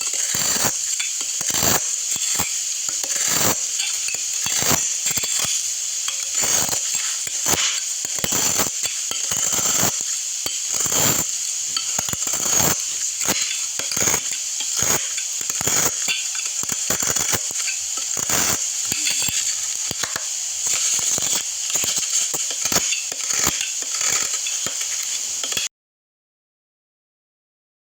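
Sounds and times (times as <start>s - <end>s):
blade scraping soap: 0.0s - 25.7s
steady high hiss: 0.0s - 25.7s.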